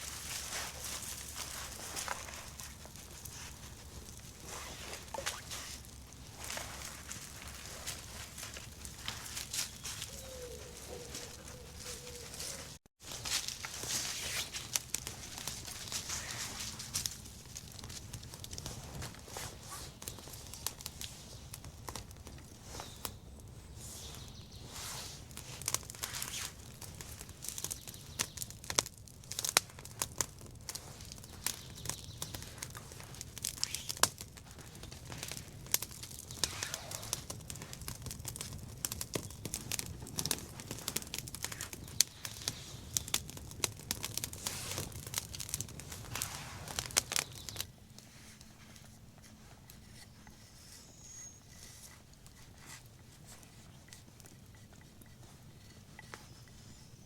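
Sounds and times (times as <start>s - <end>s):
dry material crinkling and snapping: 0.0s - 23.2s, 25.2s - 56.6s.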